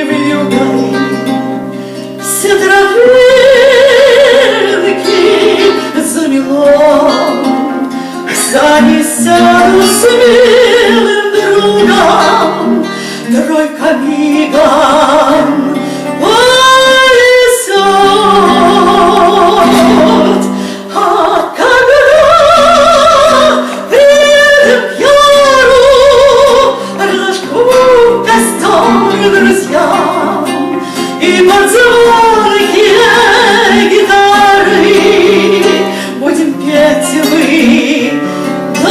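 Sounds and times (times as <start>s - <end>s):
woman singing with vibrato: 0.0s - 38.9s.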